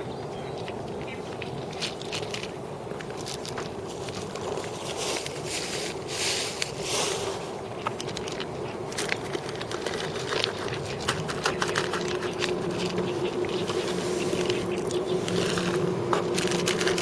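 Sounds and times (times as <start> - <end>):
kittens chewing food: 0.0 - 17.0
steady hum: 0.0 - 17.0.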